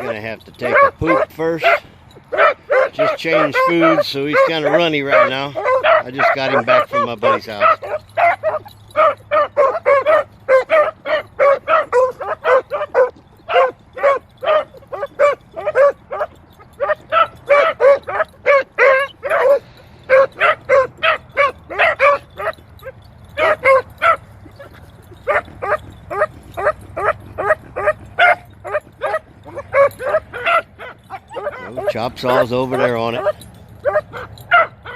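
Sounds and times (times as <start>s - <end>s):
dogs barking: 0.0s - 34.9s.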